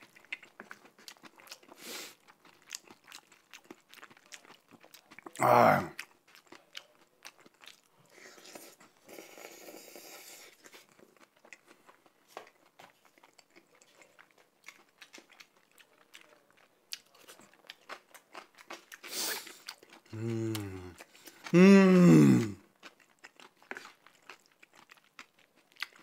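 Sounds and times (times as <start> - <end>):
chewing noodles: 0.0 - 26.0.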